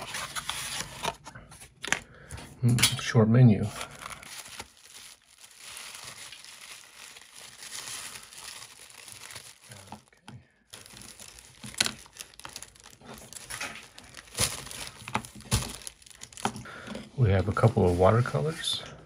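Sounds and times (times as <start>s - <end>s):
tissue paper crinkling: 0.0s - 1.2s, 3.6s - 16.6s, 17.4s - 18.6s.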